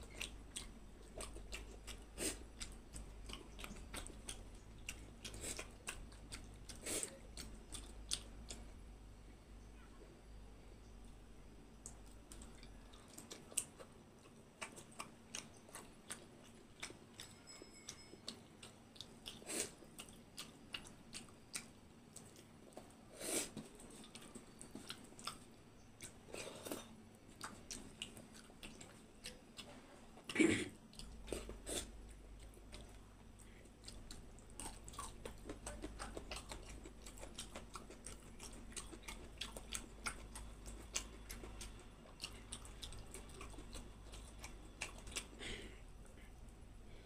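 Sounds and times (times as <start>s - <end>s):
wet chewing: 0.0s - 9.0s, 11.0s - 46.5s
low steady hum: 0.0s - 47.0s.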